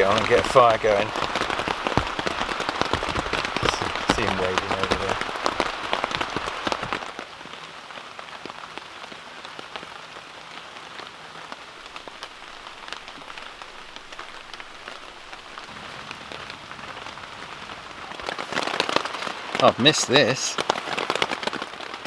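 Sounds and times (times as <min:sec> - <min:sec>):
rain tapping on tent fabric: 0:00.0 - 0:22.0.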